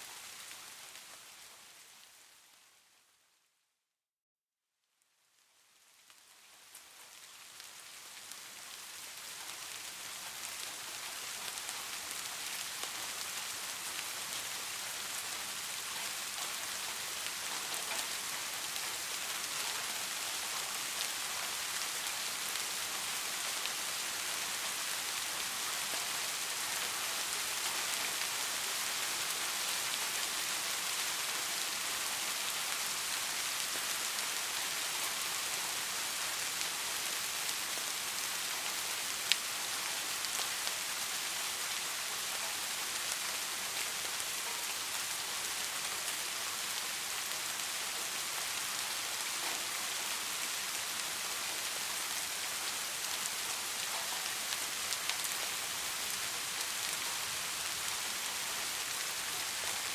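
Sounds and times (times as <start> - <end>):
steady rainfall: 0.0 - 3.2, 5.3 - 59.9.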